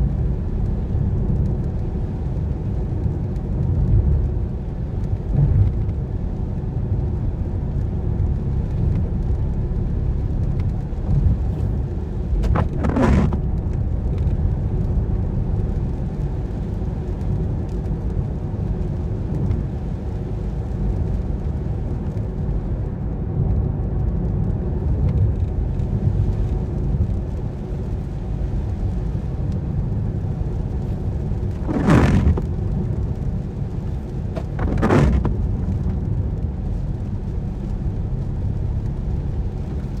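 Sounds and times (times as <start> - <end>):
car driving on wet road: 0.0 - 40.0.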